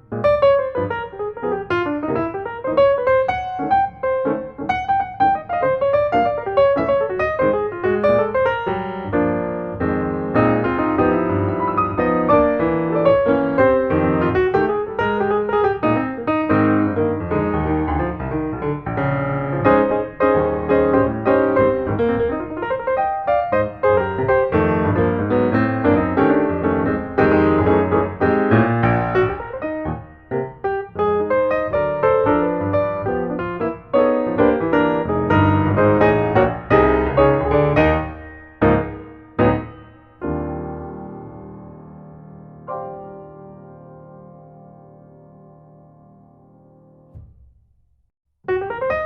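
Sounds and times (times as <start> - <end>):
piano music: 0.0 - 47.4, 48.4 - 49.0.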